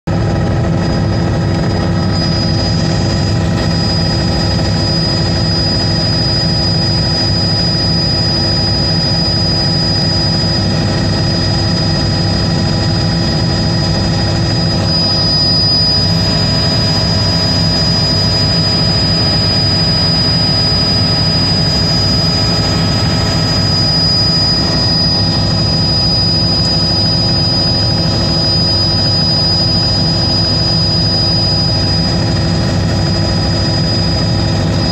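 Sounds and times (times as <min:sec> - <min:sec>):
aircraft engine drone: 0:00.1 - 0:34.9
thin high whine: 0:00.2 - 0:34.9.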